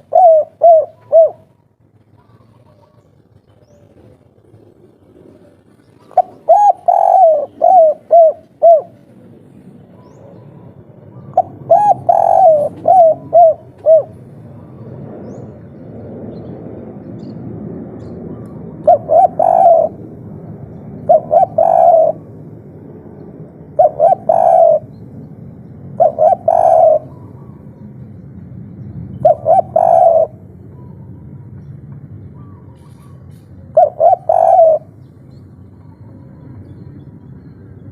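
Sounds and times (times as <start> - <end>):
dove cooing: 0.0 - 15.8, 18.3 - 22.4, 23.6 - 28.2, 28.8 - 37.9
low background hum: 0.0 - 37.9.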